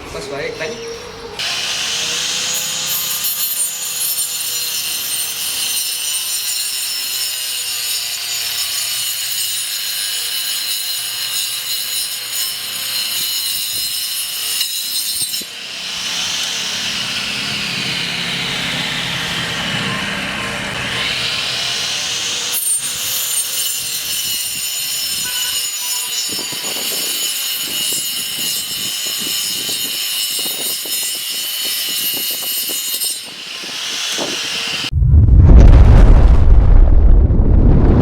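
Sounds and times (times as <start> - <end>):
power cutter cutting wood: 0.6 - 34.9.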